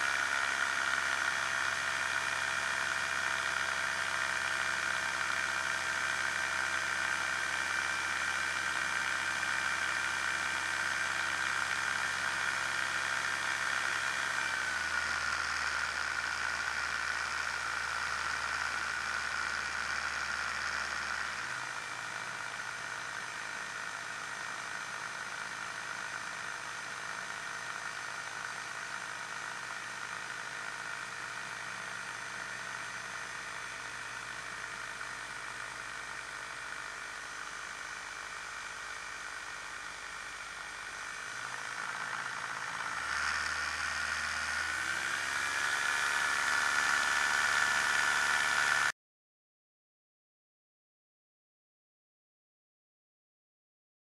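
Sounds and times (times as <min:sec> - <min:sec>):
ultralight aircraft engine: 0:00.0 - 0:28.0, 0:28.6 - 0:49.0.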